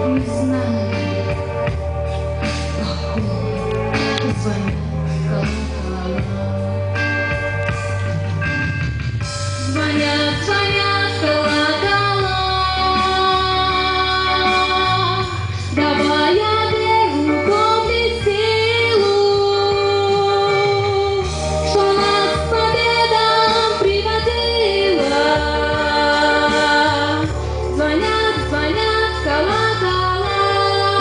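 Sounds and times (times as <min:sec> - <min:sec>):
woman singing into microphone: 0:00.0 - 0:08.5, 0:09.6 - 0:31.0
instrumental backing track: 0:00.0 - 0:31.0.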